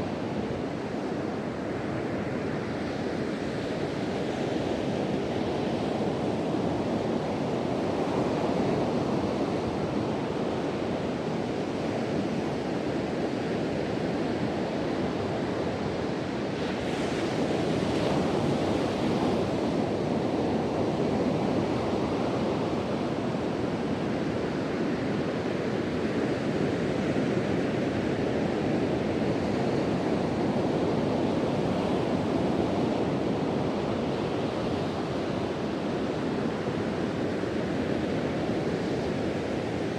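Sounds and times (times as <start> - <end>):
wind blowing across microphone: 0.0 - 39.9.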